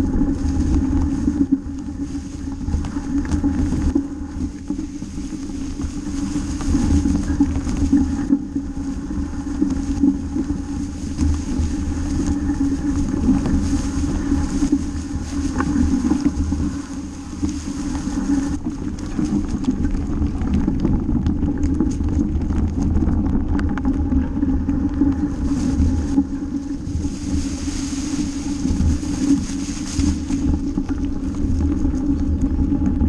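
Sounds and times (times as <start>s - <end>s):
leaves crackling: 0.0s - 32.9s
bike rolling over dry leaves: 0.0s - 33.0s
wind buffeting microphone: 0.0s - 33.0s.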